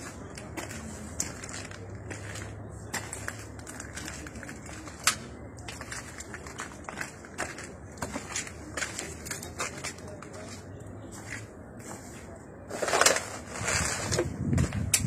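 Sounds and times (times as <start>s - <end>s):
low background murmur: 0.0s - 15.0s.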